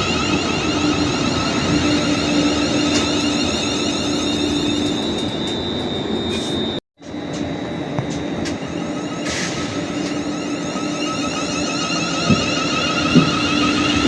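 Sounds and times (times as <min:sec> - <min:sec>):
high whine: 0:00.0 - 0:14.0
train rushing past: 0:00.0 - 0:14.0.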